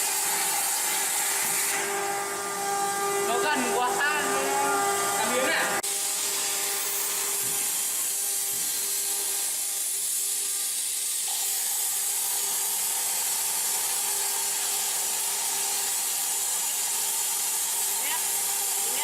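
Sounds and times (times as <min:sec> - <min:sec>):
plasma torch hissing: 0:03.3 - 0:19.0.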